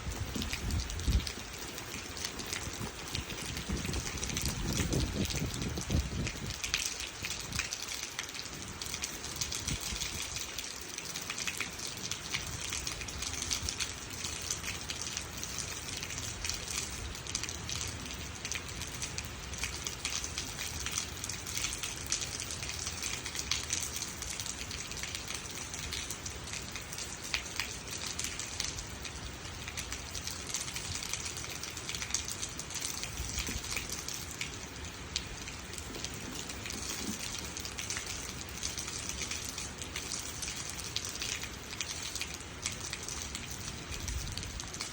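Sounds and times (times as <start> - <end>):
steady rain pattering: 0.0 - 44.9.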